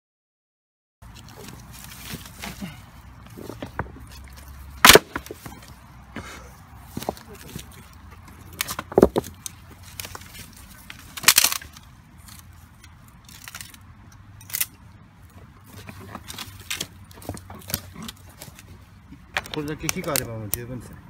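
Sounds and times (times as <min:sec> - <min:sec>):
dry branches cracking: 0:01.0 - 0:06.0, 0:06.8 - 0:20.8.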